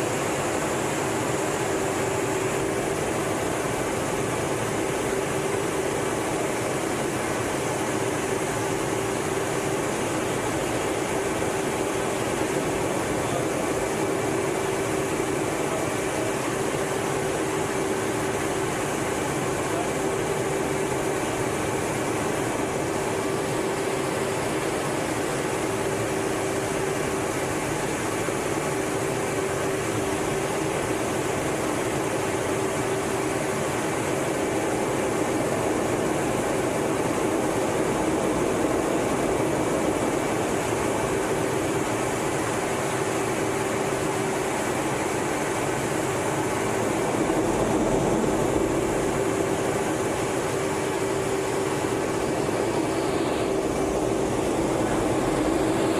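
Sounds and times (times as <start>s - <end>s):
jet engine and air rush: 0.0s - 55.9s
steady hum: 0.0s - 55.9s.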